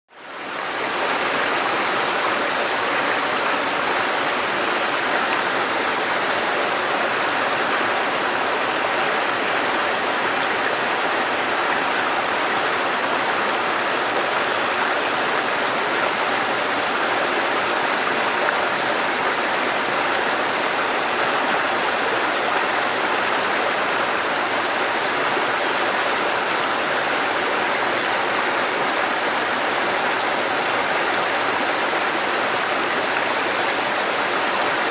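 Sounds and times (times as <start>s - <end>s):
stream babbling: 0.1s - 34.9s.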